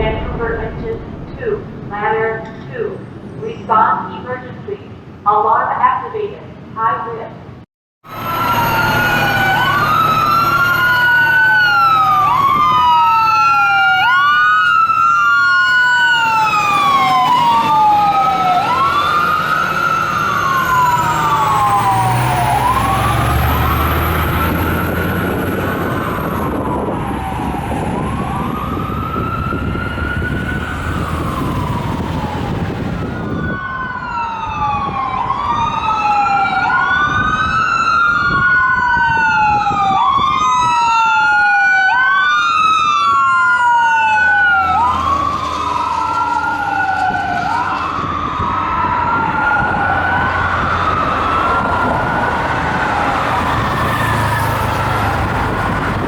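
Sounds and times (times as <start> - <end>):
heavy truck engine rumbling: 0.0 - 5.3, 7.5 - 39.8, 42.8 - 56.0
fire engine sirens wailing: 8.0 - 56.0.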